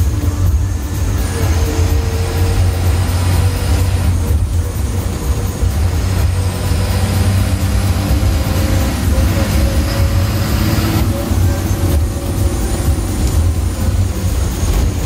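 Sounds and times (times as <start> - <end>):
diesel bus engine drone: 0.0 - 15.0.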